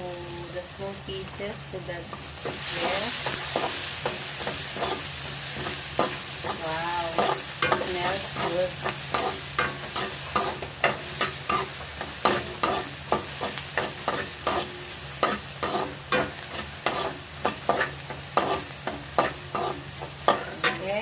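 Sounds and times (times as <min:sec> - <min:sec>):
garlic and onion sizzling in oil: 0:00.0 - 0:21.0
spatula scraping a wok: 0:02.1 - 0:21.0.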